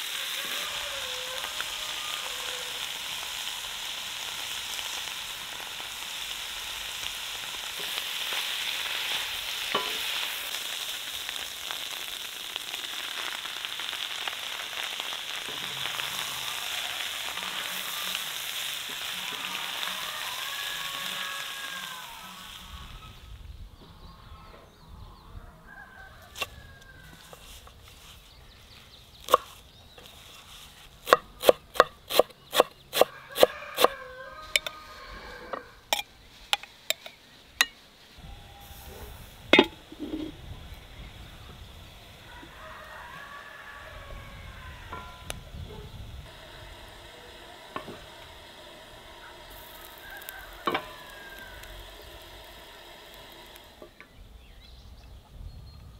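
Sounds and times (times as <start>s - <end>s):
food sizzling in a pan: 0.0s - 23.3s, 26.4s - 54.1s.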